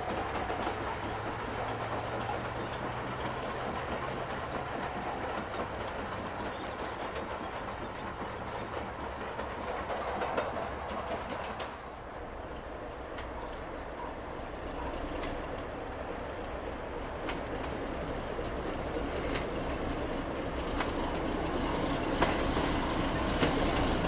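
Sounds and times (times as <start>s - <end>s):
train rumble: 0.0s - 24.0s
wheels clicking on rails: 0.0s - 24.0s.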